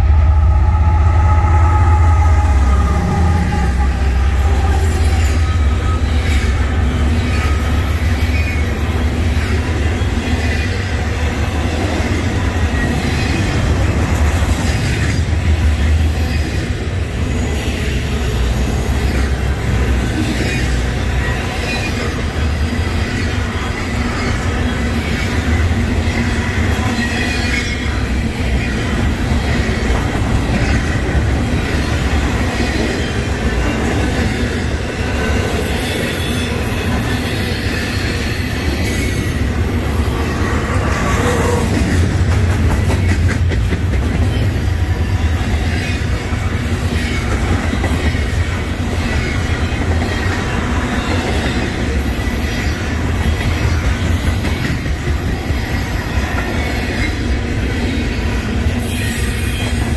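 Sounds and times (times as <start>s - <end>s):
high wheel squeal: 0.0s - 59.9s
train wheels rumbling on rails: 0.0s - 59.9s.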